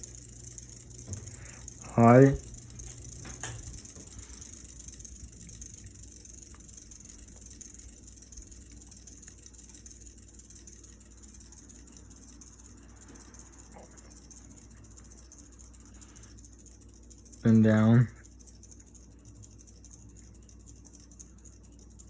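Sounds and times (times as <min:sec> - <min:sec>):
ceiling fan motor hum and whir: 0:00.0 - 0:22.0
faint ticks: 0:00.0 - 0:22.0.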